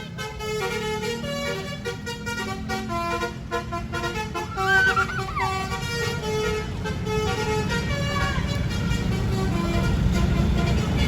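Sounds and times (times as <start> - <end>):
bus horn playing a tune: 0.0 - 11.0
diesel bus engine running: 0.0 - 11.0.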